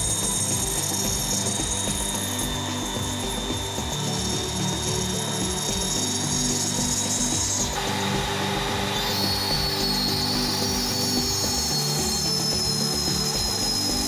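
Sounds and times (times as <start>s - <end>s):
hand grinder whining: 0.0s - 14.0s.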